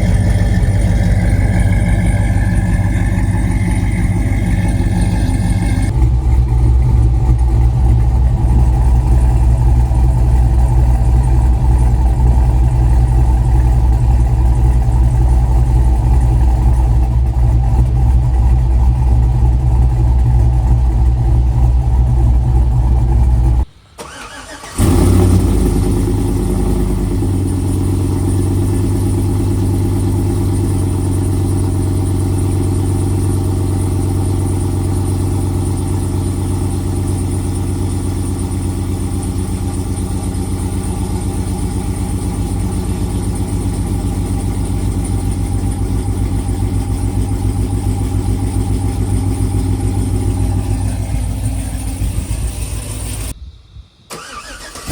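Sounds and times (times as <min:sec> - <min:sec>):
v-eight engine idling: 0:00.0 - 0:53.4, 0:54.1 - 0:54.9.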